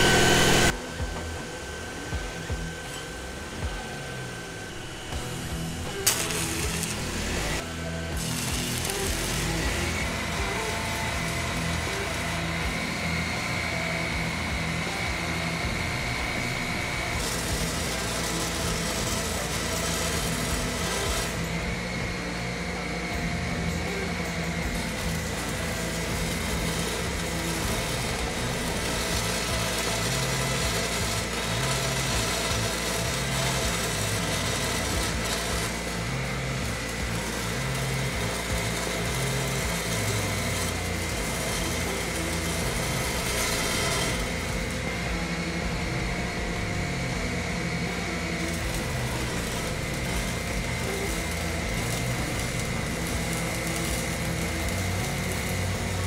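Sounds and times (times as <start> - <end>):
music playing: 0.0 - 56.0
welding arc crackling and hissing: 0.0 - 56.0.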